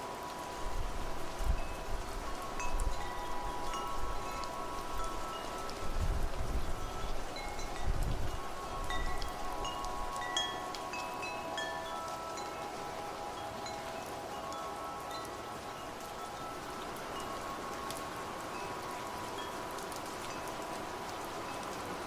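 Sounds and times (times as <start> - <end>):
steady rain: 0.0 - 22.0
wind chimes ringing: 0.0 - 22.0.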